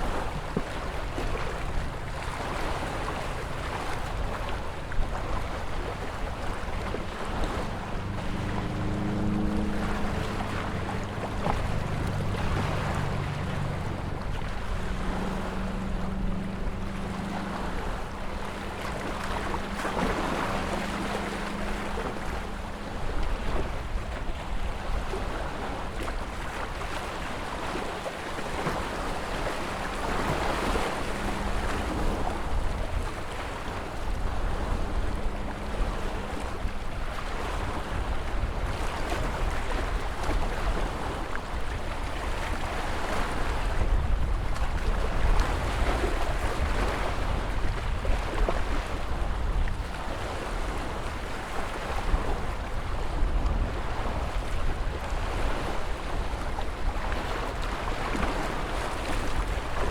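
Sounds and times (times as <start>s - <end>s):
ocean waves breaking: 0.0s - 59.9s
wind rumble on microphone: 0.0s - 59.9s.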